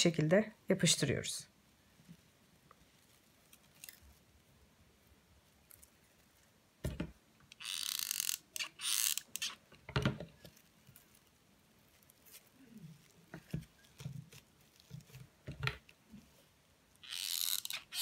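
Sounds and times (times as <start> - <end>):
rustling: 1.7 - 6.9, 7.6 - 18.0.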